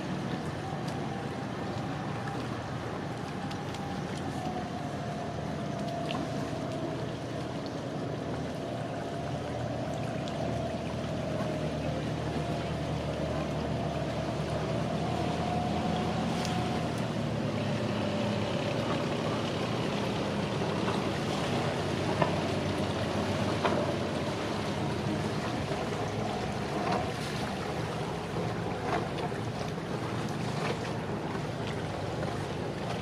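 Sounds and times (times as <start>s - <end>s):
motorboat engine running: 0.0s - 33.0s.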